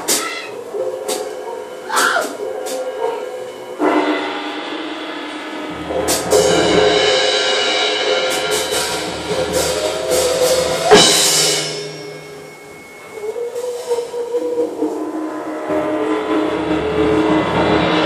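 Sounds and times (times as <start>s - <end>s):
drum and cymbal crashes: 0.0s - 14.6s
rock band droning: 0.0s - 18.0s.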